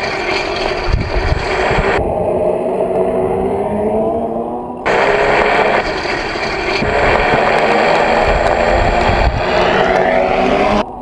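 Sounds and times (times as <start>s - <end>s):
model plane engine running: 0.0s - 11.0s
wind rumble on microphone: 0.6s - 6.0s, 6.7s - 11.0s.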